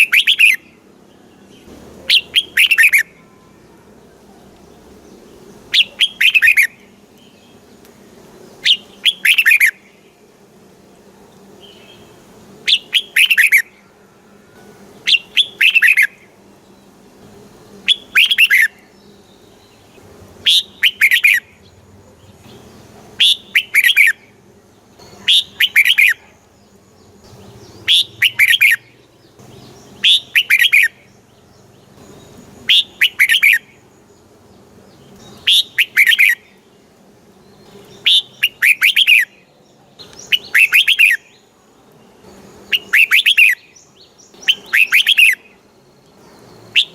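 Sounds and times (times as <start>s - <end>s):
bulbul singing: 0.0s - 46.9s
faint steady hum: 0.0s - 46.9s.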